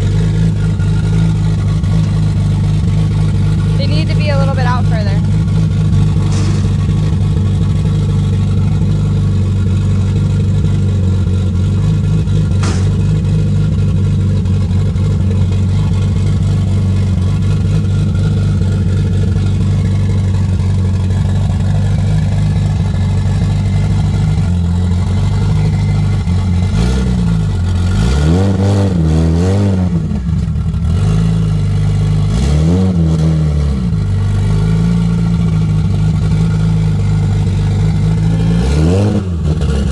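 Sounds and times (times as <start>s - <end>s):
car engine idling and blipped: 0.0s - 39.9s.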